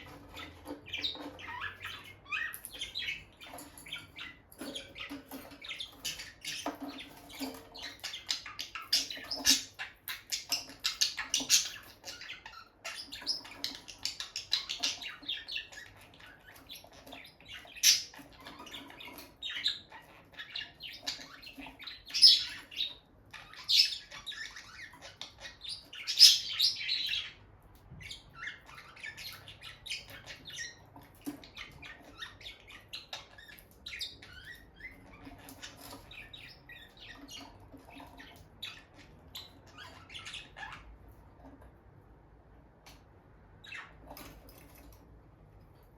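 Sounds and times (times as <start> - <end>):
lovebirds chirping: 0.0 - 41.1, 42.9 - 45.0.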